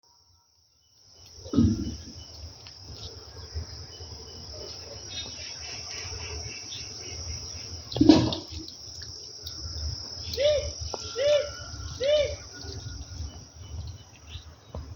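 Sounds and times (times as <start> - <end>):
insect chorus shrilling: 0.7 - 14.8.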